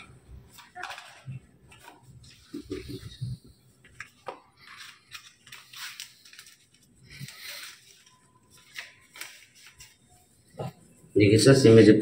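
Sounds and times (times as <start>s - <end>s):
cardboard and plastic rustling: 0.0s - 10.7s.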